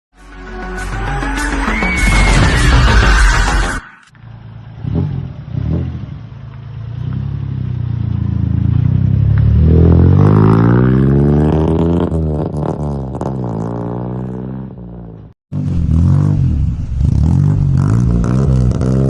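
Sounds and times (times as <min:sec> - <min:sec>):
car engine revving: 0:02.3 - 0:19.0.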